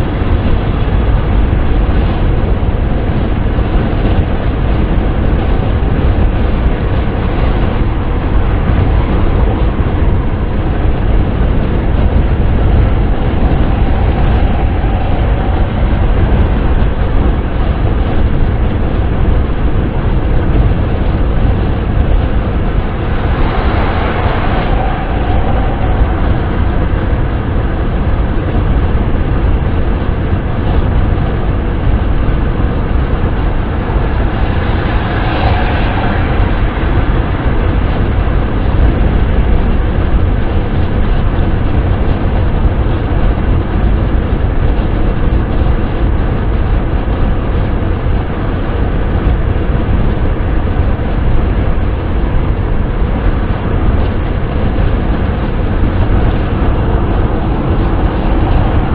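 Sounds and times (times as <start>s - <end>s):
deep vehicle rumble: 0.0s - 58.9s
wind and road noise: 0.0s - 58.9s.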